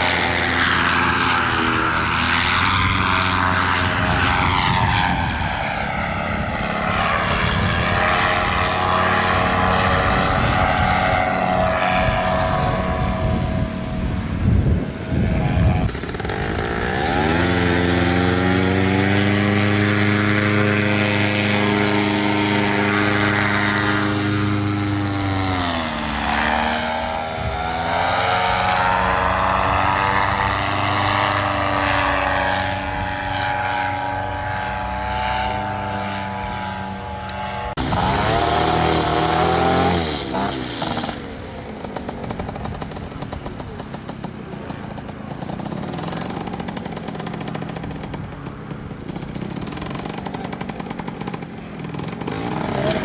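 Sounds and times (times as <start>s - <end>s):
paramotor engine and propeller: 0.0s - 53.0s.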